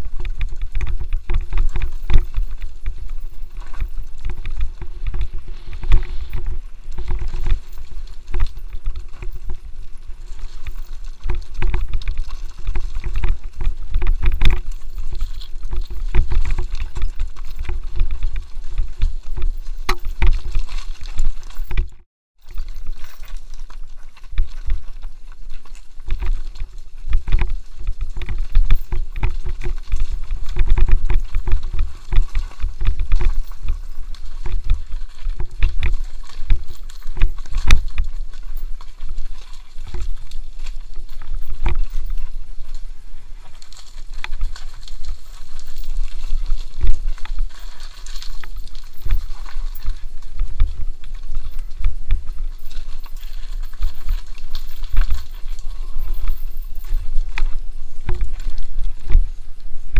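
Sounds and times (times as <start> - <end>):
bike rattling over stones: 0.0 - 59.9
wind rumbling on microphone: 0.0 - 59.9.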